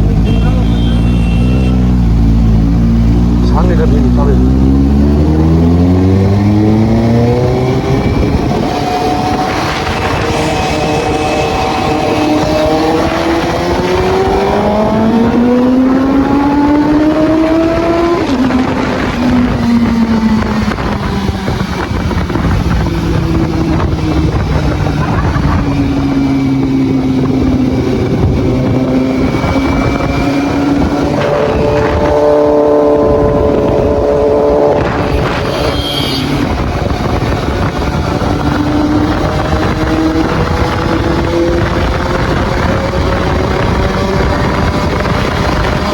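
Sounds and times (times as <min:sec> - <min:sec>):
motorcycle engine accelerating: 0:00.0 - 0:45.9
wind rushing over microphone: 0:02.1 - 0:45.9.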